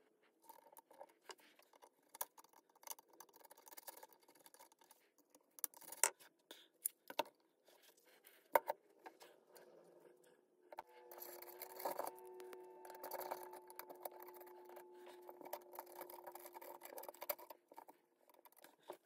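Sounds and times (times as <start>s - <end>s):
small parts clicking and scraping: 0.4s - 10.1s, 10.7s - 19.0s.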